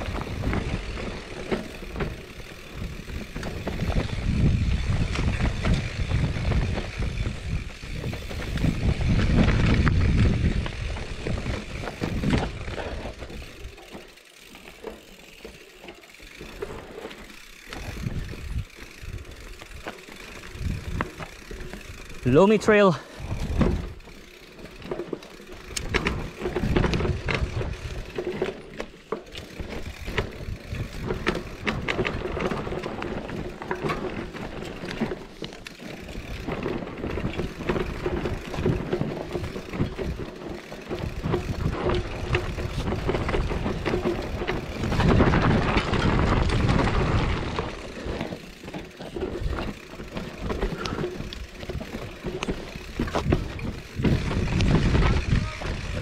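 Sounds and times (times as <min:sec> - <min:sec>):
bike knocking and rattling: 0:00.0 - 0:56.0
bike tyres rolling over dirt: 0:00.0 - 0:56.0.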